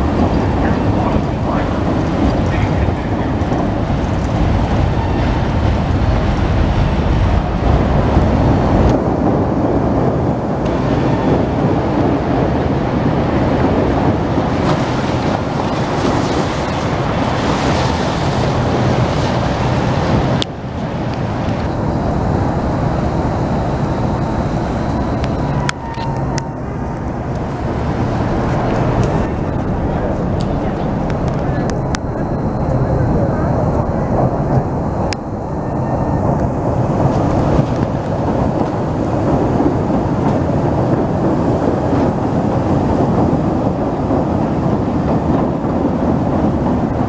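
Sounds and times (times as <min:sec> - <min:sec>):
train rumbling on elevated track: 0:00.0 - 0:47.0.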